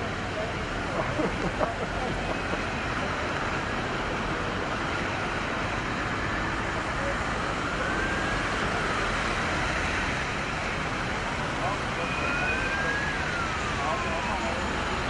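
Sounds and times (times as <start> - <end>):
distant siren wailing: 2.0 - 15.0.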